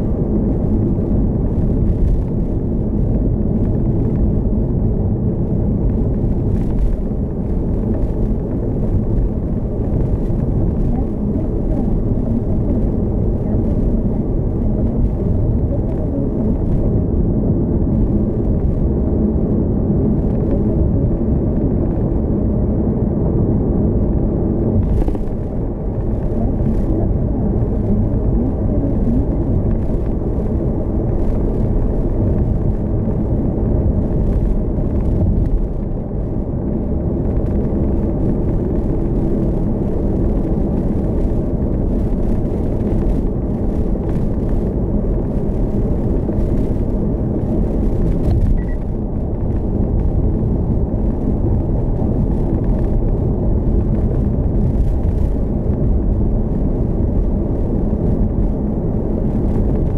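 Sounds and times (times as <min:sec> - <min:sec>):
tyre and road noise: 0:00.0 - 0:59.9.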